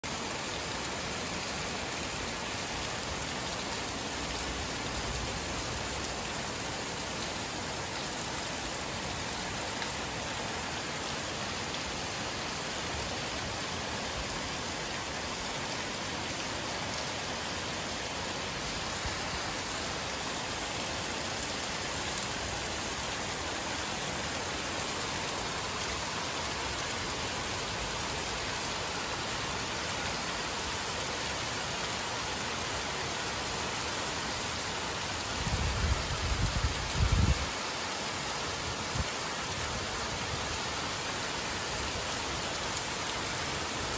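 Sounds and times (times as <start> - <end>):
rain on roofs and pavement: 0.0 - 43.9.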